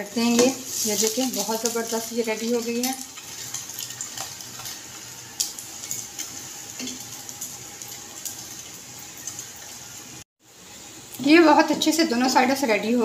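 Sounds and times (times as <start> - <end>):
bread sizzling in a pan: 0.0 - 13.0.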